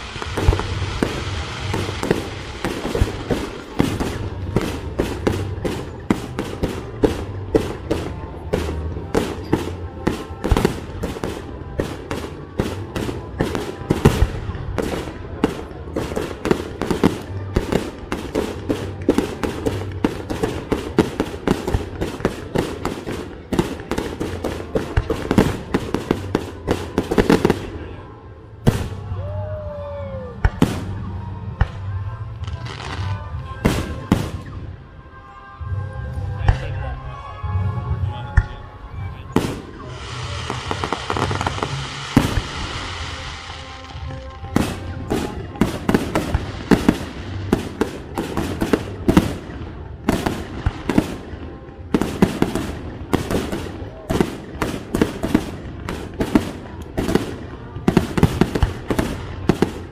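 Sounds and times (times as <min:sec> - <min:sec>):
fireworks bursting: 0:00.0 - 0:29.3, 0:30.4 - 0:34.8, 0:39.3 - 0:59.9.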